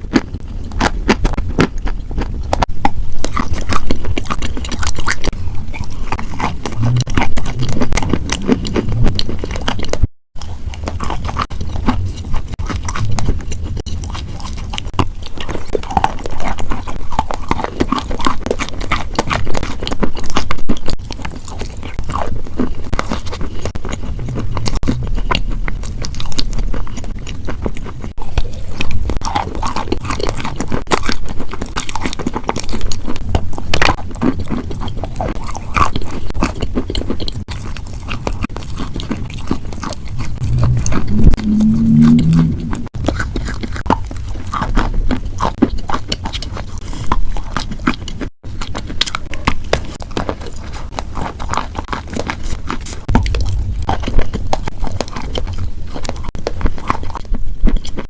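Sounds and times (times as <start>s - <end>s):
chewing crunchy food: 0.0s - 58.0s.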